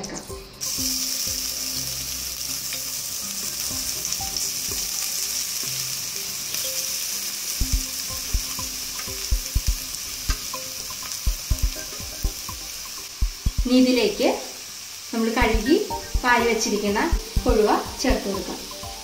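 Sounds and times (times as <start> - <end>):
coconut sizzling in hot oil: 0.0 - 19.0.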